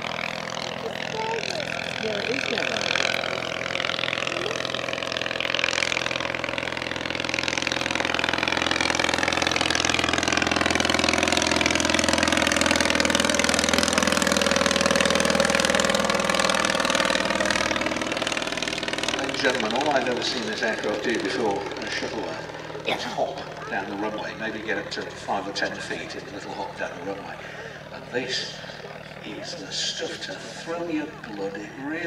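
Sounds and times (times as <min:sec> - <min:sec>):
propeller aircraft engine flyby: 0:00.0 - 0:32.0.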